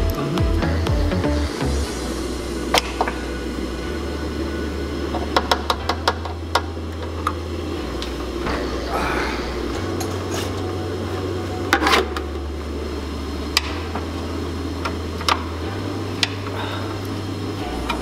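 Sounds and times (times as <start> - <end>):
heater fan hum: 0.0 - 18.0.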